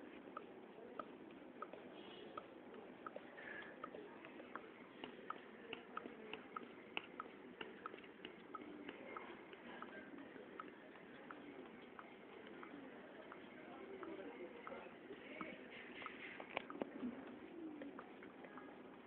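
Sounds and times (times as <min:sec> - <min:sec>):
faint light ticking: 0:00.0 - 0:19.0.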